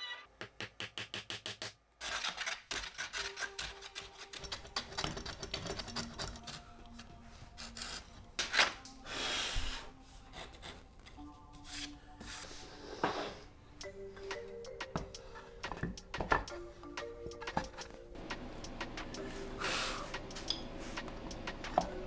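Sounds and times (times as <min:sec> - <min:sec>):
background music with held notes: 0:03.2 - 0:22.0.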